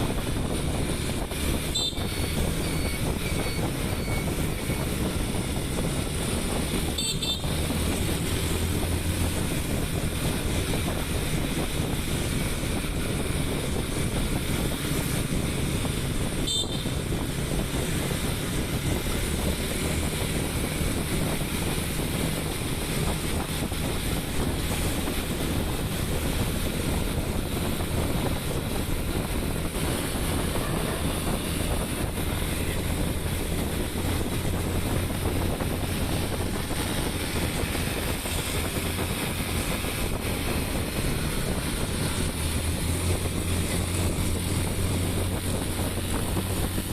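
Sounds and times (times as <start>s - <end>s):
vehicle engine running: 0.0s - 46.9s
wind noise on microphone: 0.0s - 46.9s.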